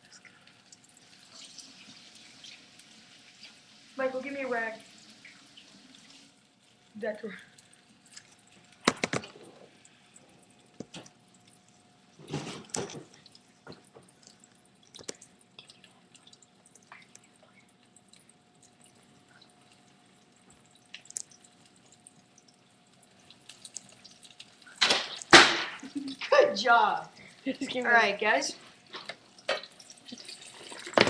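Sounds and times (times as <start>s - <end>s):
fish frying in oil: 0.0s - 31.0s
spitting oil crackles and pops: 0.0s - 31.0s.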